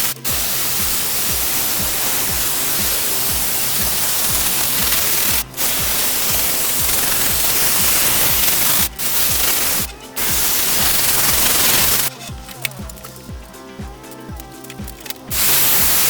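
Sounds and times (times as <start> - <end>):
background music with steady beat: 0.0 - 16.0
steam cleaner hissing: 0.0 - 16.0.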